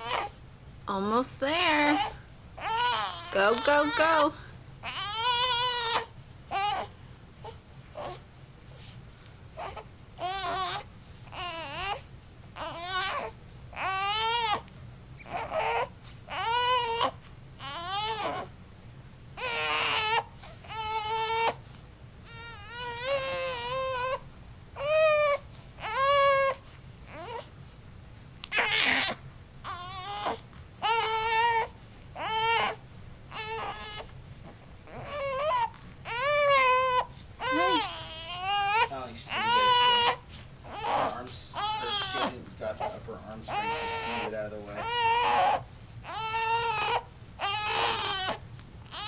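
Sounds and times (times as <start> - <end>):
baby crying: 0.0 - 0.4, 1.7 - 6.9, 9.6 - 12.0, 12.6 - 14.6, 15.2 - 18.5, 19.4 - 21.6, 22.3 - 24.2, 24.8 - 27.5, 28.5 - 34.1, 34.9 - 49.0.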